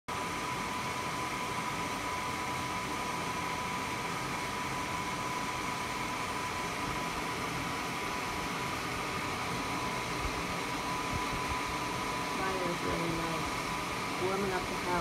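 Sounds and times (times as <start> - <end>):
blower fan whooshing: 0.1 - 15.0
high-pitched fan whine: 0.1 - 15.0.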